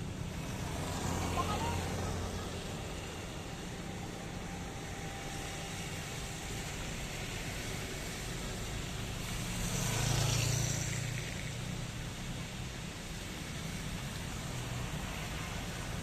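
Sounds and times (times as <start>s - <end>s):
steady rain falling: 0.0s - 16.0s
vehicle passing on wet road: 0.0s - 16.0s.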